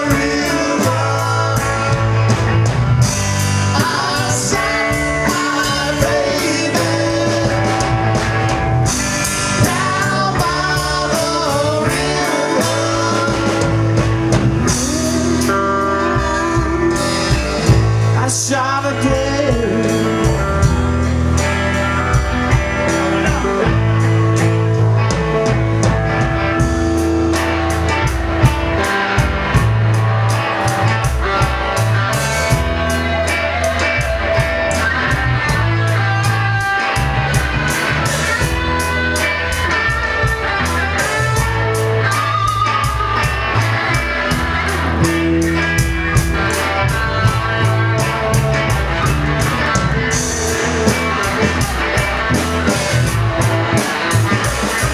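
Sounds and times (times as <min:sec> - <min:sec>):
electric guitar bending notes: 0:00.0 - 0:54.9
rockabilly blues band playing: 0:00.0 - 0:54.9
steady drum kit beat: 0:00.0 - 0:54.9.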